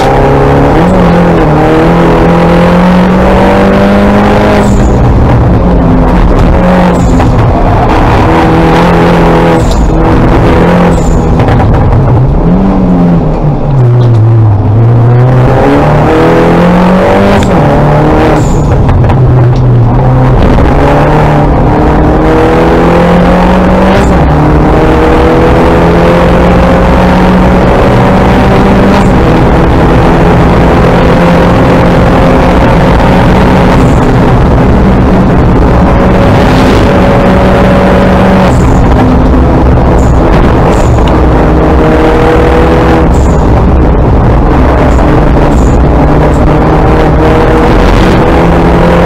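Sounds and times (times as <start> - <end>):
racing car engine shifting gears: 0.0 - 49.0.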